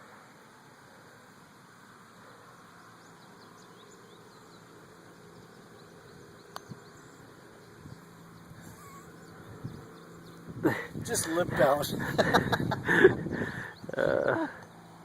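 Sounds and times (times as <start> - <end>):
insects buzzing and chirping: 0.0 - 15.0.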